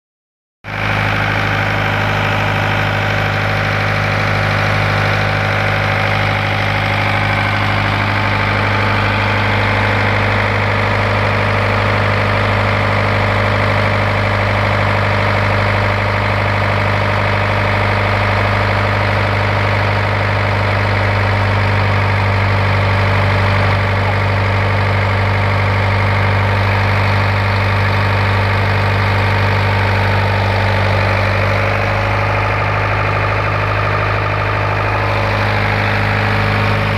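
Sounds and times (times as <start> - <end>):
engine running steadily: 0.6 - 36.9.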